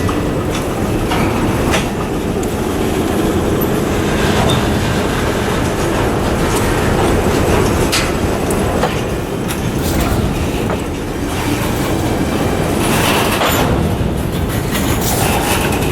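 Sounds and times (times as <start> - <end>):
freight train rumbling: 0.0 - 15.9
wheels clacking on rail joints: 0.0 - 15.9.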